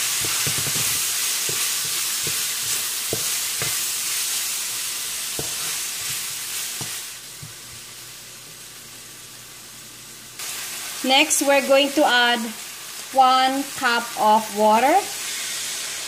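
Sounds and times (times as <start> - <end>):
vegetables sizzling in a wok: 0.0 - 16.0.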